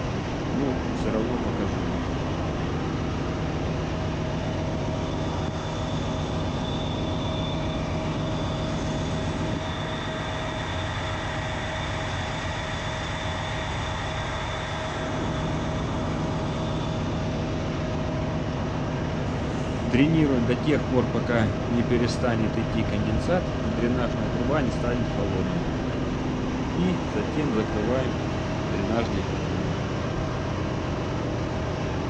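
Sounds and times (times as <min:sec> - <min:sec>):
engine room machinery drone: 0:00.0 - 0:32.0
machinery whine: 0:00.0 - 0:32.0.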